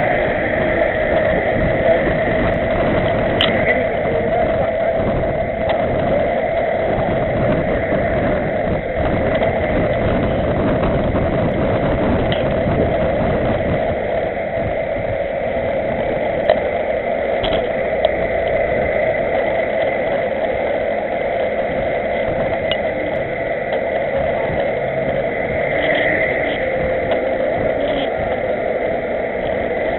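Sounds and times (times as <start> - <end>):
bicycle road rumble: 0.0 - 29.9
wind rushing: 0.0 - 29.9.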